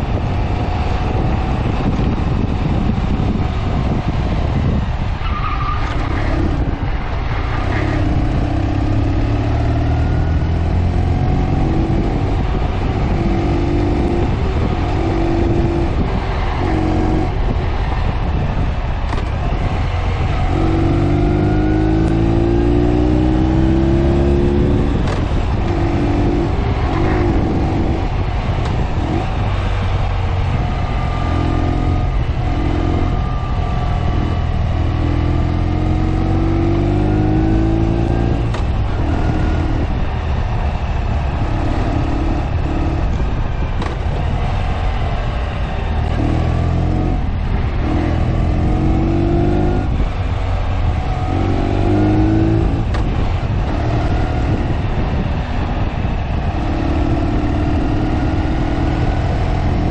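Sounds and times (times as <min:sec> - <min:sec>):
motorcycle engine revving: 0:00.0 - 0:59.9
road and wind noise: 0:00.0 - 0:59.9.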